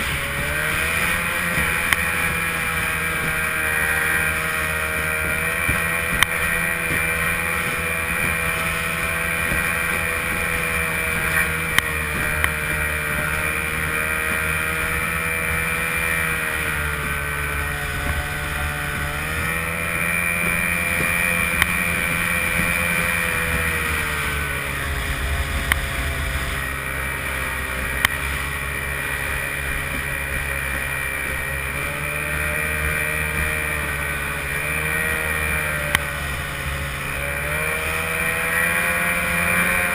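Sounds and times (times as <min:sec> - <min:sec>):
outboard motor running hard: 0:00.0 - 0:39.9
water rushing against hull: 0:00.0 - 0:39.9.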